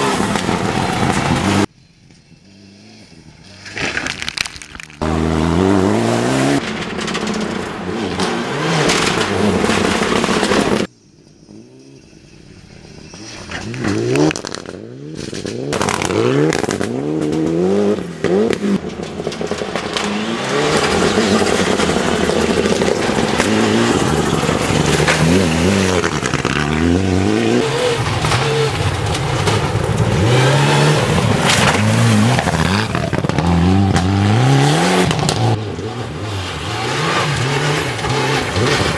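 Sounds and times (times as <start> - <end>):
rally cars accelerating hard: 5.0 - 10.9, 13.1 - 38.9.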